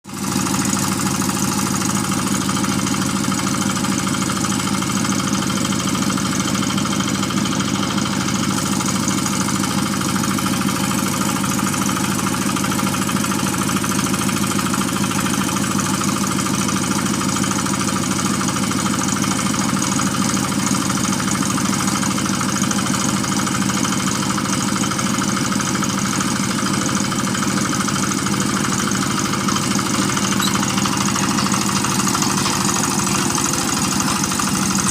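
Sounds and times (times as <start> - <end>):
drilling machine engine running: 0.1 - 34.9.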